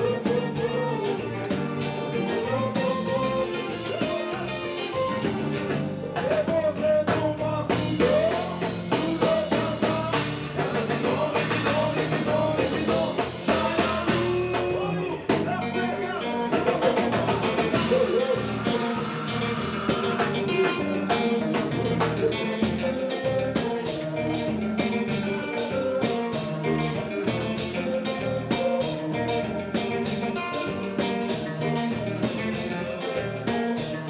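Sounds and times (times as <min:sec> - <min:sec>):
live band playing: 0:00.0 - 0:34.0
person singing lead vocals: 0:00.0 - 0:34.0.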